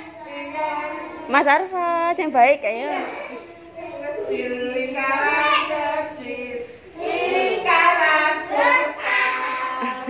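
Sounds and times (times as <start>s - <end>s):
young children singing: 0.0s - 1.3s, 2.9s - 10.0s.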